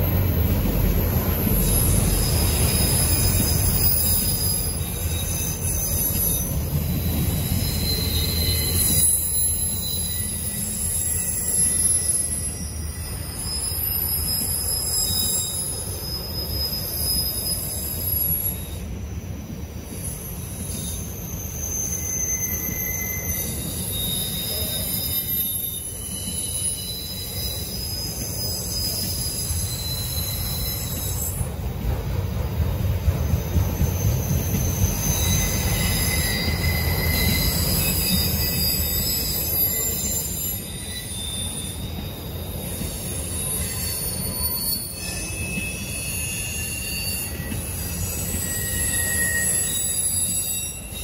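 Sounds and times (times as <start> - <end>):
high-pitched wheel squeals: 0.0 - 31.9, 33.1 - 51.0
train wheels rumbling on rail: 0.0 - 51.0.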